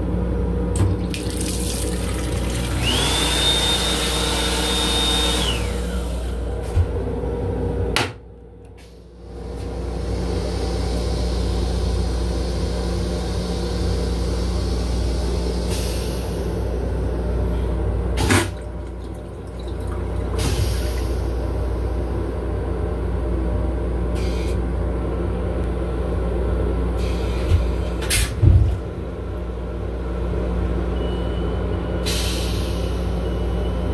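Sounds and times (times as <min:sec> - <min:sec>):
railcar rumble and hum: 0:00.0 - 0:01.2, 0:05.5 - 0:33.9.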